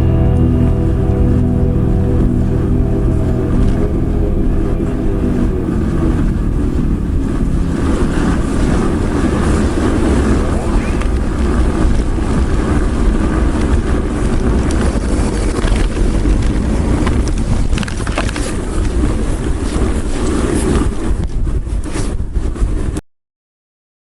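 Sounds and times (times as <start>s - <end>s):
bike riding noise: 0.0s - 22.9s
wind buffeting microphone: 0.0s - 23.0s.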